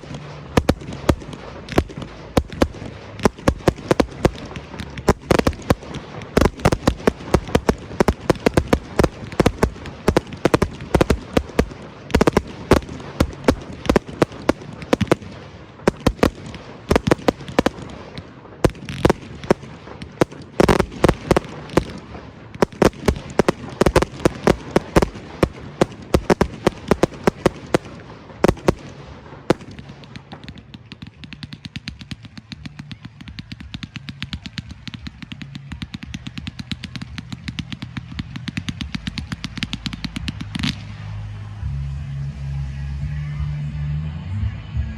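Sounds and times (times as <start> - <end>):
fireworks bursting: 0.0 - 42.5.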